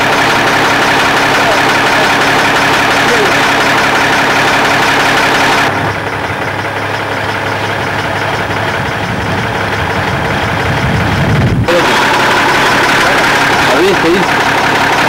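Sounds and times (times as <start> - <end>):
lorry engine idling: 0.0 - 15.0.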